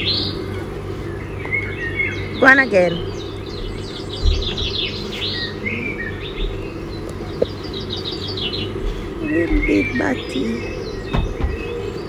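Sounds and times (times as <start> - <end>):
low steady rumble: 0.0 - 12.0
songbirds chirping: 0.0 - 12.0.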